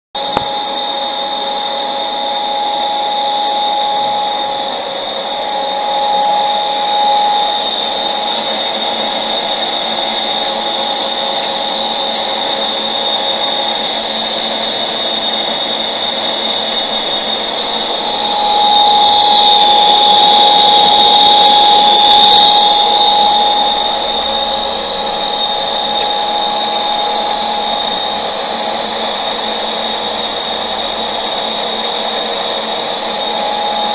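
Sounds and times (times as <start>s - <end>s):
constant whining tones: 0.2s - 33.9s
milling machine whirring: 0.2s - 33.9s.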